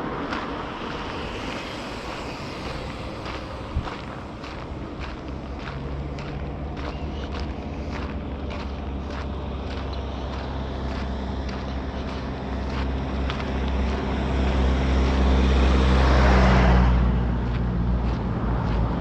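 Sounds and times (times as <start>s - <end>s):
faint footsteps: 0.0s - 19.0s
vehicle passing: 0.0s - 19.0s.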